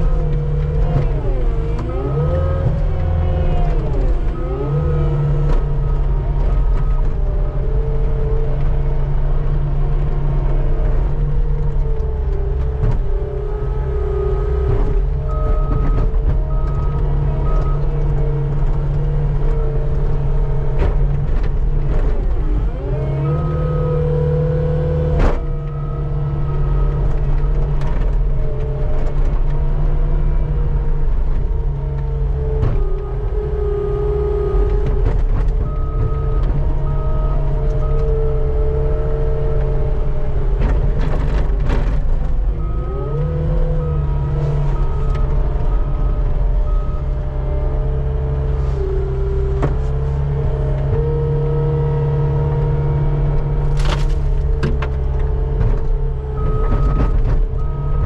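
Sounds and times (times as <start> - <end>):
diesel engine running hard: 0.0 - 58.0.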